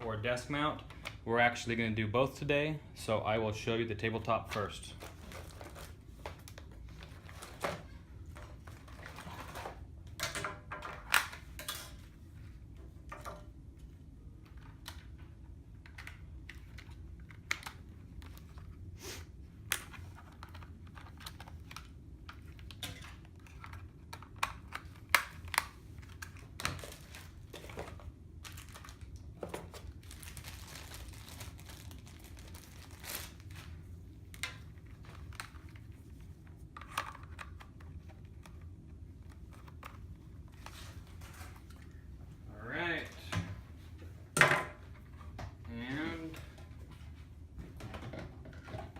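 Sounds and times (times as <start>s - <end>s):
low room hum: 0.0s - 48.9s.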